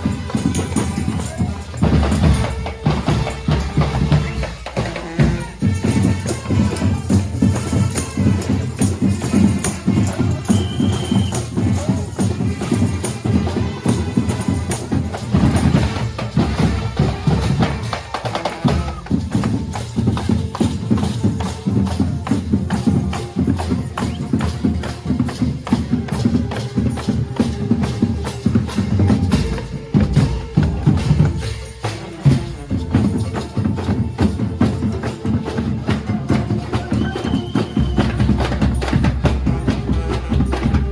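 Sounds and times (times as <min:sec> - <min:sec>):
busy percussion: 0:00.0 - 0:40.9
street band playing: 0:00.0 - 0:40.9.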